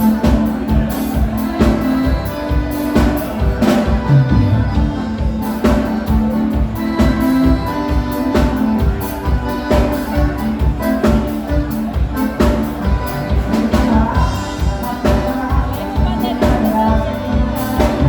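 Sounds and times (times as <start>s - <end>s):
live dance band playing: 0.0s - 18.0s.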